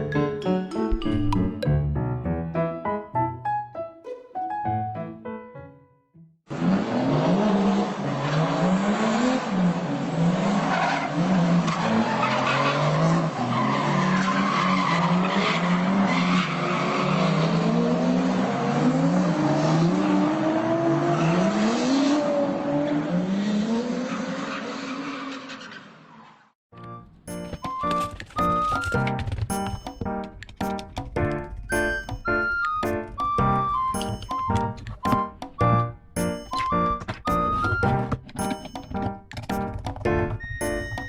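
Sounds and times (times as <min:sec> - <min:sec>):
tyres skidding: 0:06.5 - 0:26.4, 0:27.0 - 0:41.0.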